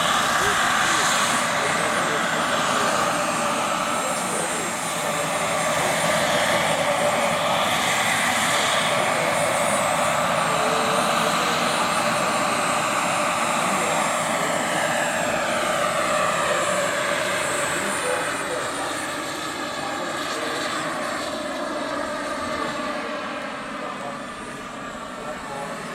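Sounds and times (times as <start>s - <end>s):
model helicopter rotor whine: 0.0s - 25.9s.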